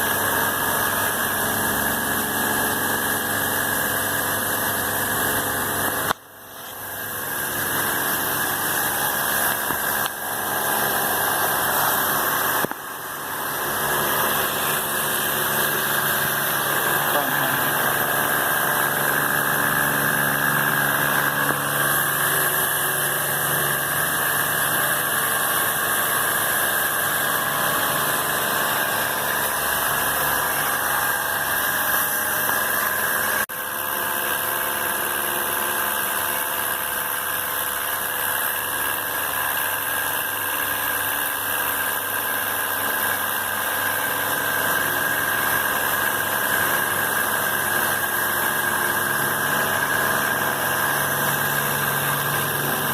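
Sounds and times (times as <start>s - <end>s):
small motor running with hiss: 0.0s - 52.9s.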